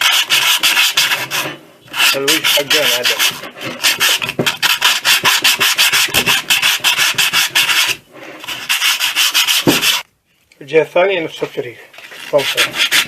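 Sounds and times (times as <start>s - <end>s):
sandpaper rubbing on metal: 0.0s - 10.0s, 12.0s - 13.0s.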